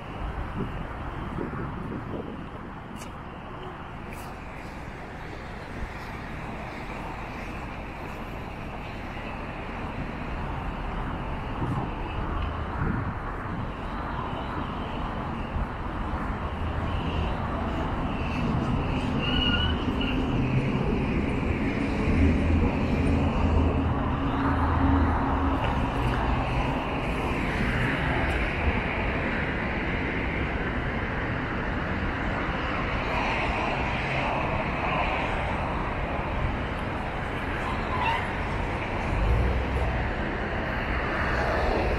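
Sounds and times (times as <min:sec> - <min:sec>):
city street traffic: 0:00.0 - 0:41.9
heavy engine hum passing: 0:00.0 - 0:41.9.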